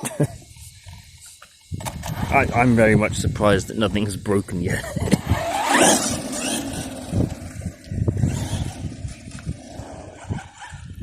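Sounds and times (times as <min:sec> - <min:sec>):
tyre and ground noise: 0:00.0 - 0:11.0
electric motor whining: 0:00.4 - 0:11.0.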